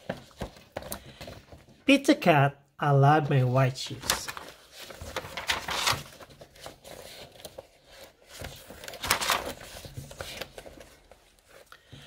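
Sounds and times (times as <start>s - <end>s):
book pages rustling: 0.0s - 1.8s, 3.4s - 12.0s.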